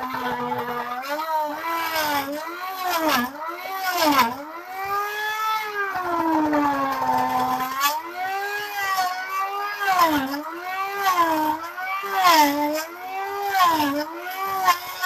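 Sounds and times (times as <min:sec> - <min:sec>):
power tool cutting wood: 0:00.0 - 0:15.0.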